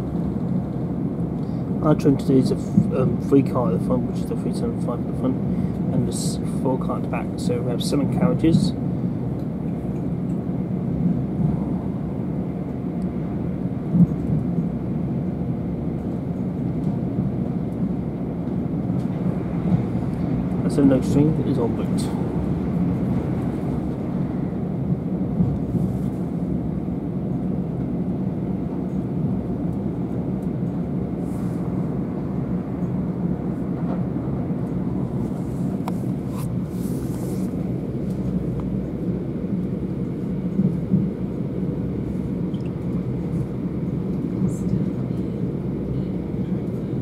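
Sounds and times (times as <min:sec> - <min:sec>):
train running rumble inside carriage: 0:00.0 - 0:47.0.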